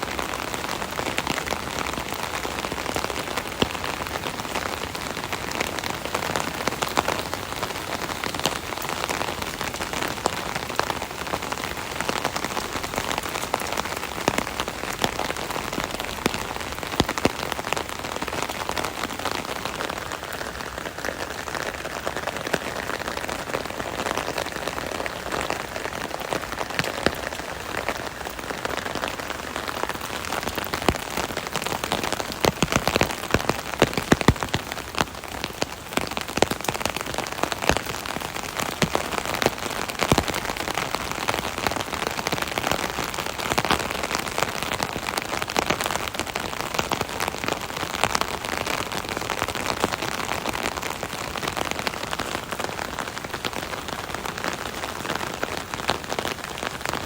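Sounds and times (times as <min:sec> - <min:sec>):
rain drumming on an umbrella: 0:00.0 - 0:57.0.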